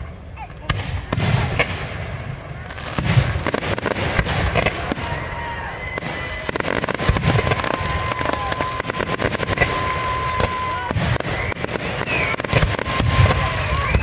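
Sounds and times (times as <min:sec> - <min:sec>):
fireworks bursting and crackling: 0:00.0 - 0:14.0
deep fireworks booms: 0:00.5 - 0:14.0.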